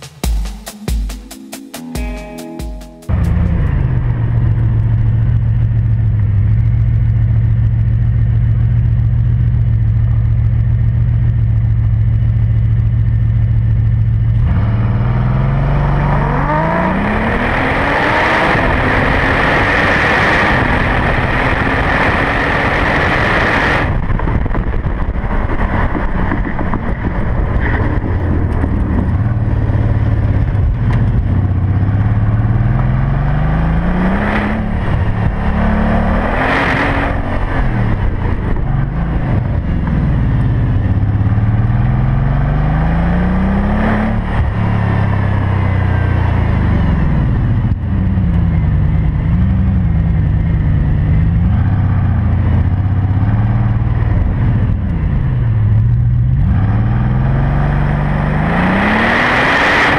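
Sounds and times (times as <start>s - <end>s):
sports car engine revving: 9.4s - 59.9s.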